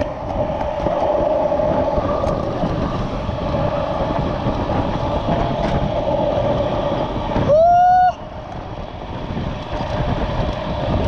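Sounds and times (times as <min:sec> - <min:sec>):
scooter wheels rolling over concrete: 0:00.0 - 0:11.0.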